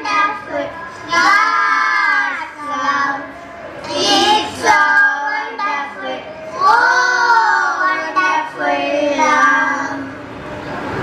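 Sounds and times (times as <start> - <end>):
children singing: 0.0 - 10.3.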